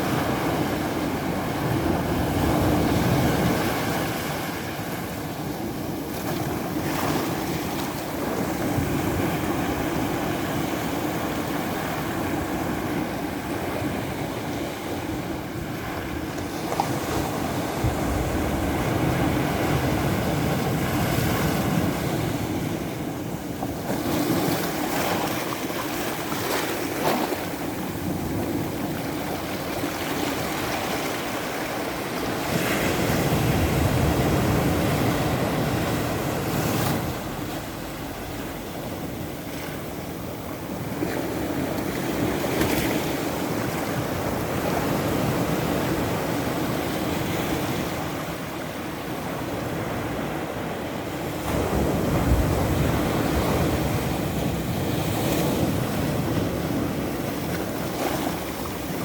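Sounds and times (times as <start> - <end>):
ocean surf washing: 0.0 - 59.0
waves crashing: 0.0 - 59.0.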